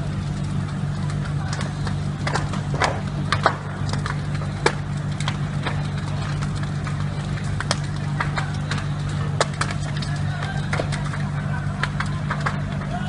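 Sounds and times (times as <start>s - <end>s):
large fire crackling and popping: 0.0s - 13.0s
steady low hum: 0.0s - 13.0s.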